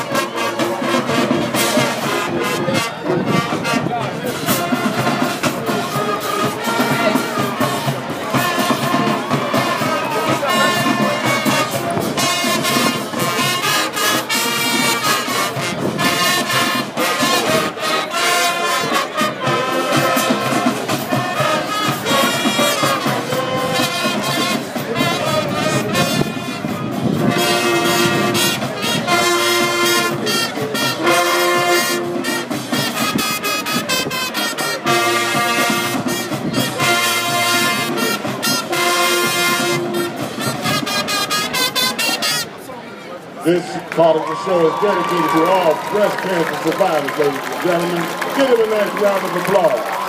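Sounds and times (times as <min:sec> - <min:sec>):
trumpets and trombones: 0:00.0 - 0:42.7
marching band playing: 0:00.0 - 0:50.0.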